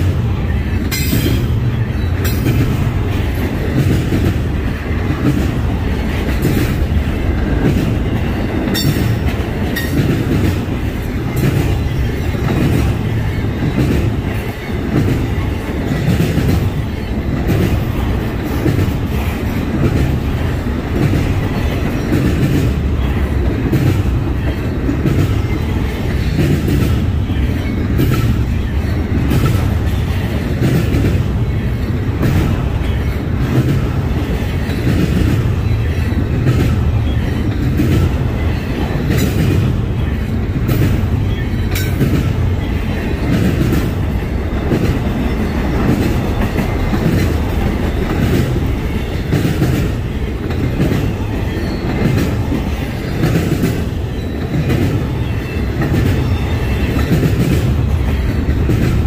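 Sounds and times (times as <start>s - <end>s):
freight train rumble: 0.0s - 59.0s
wheels clacking on rail joints: 0.0s - 59.0s.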